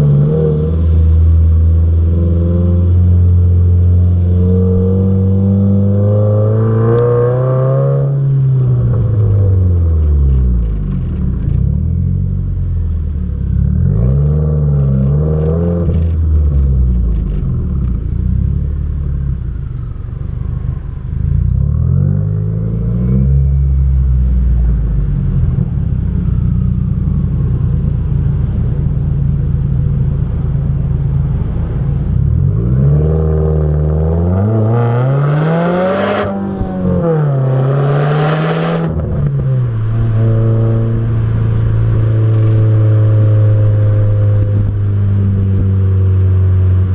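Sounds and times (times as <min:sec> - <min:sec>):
car exhaust through gear shifts: 0:00.0 - 0:46.9
low rumble of road noise: 0:00.0 - 0:46.9.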